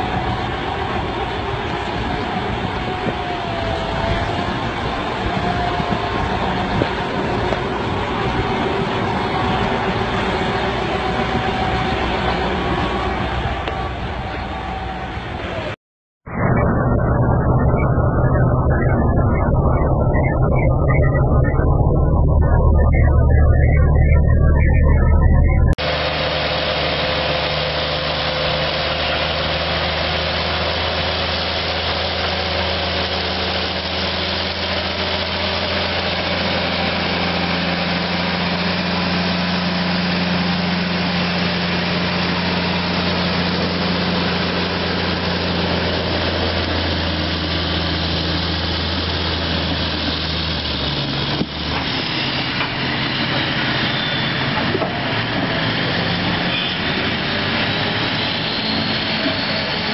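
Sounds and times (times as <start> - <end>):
diesel truck engine droning: 0.0 - 15.8, 16.4 - 59.9.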